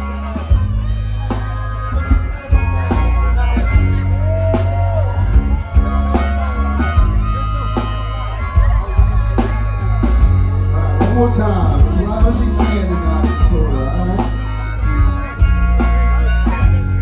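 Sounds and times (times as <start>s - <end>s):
bass and drums: 0.0s - 17.0s
harmonica lead line: 0.0s - 17.0s.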